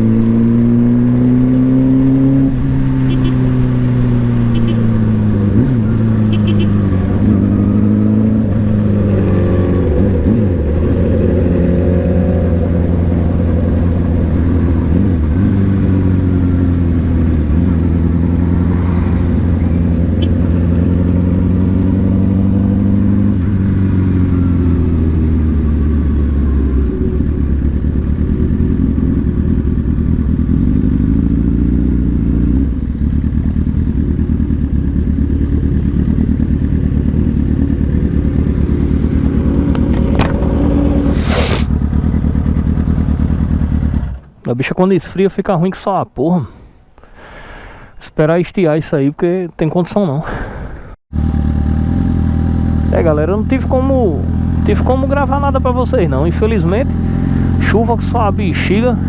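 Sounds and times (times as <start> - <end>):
motorcycle engine revving: 0.0 - 44.4, 51.1 - 59.0.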